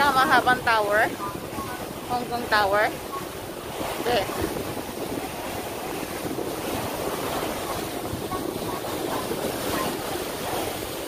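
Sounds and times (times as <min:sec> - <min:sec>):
rushing sea water: 0:00.0 - 0:11.0
wind noise on microphone: 0:00.0 - 0:11.0.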